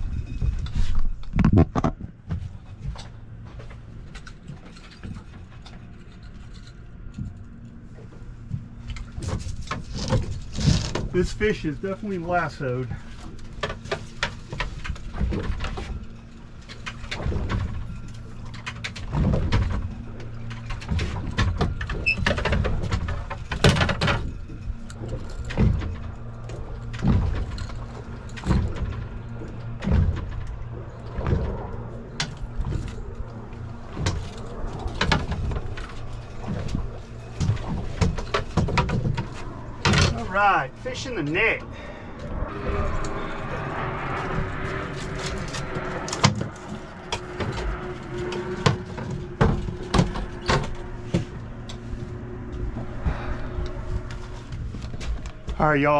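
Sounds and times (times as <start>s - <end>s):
boat motor humming: 0.0s - 55.9s.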